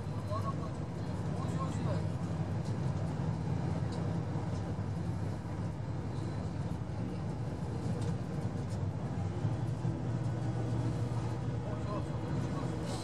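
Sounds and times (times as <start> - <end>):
diesel engine rumble: 0.0 - 13.0
wheel and rail noise: 0.7 - 13.0.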